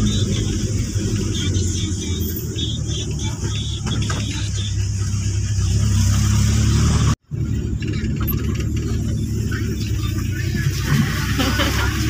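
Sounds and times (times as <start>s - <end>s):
car engine rumble from inside cabin: 0.0s - 12.0s.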